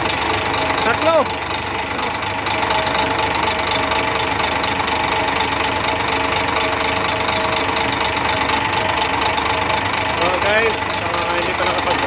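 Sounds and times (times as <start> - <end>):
diesel truck engine idling with knock: 0.0 - 12.0.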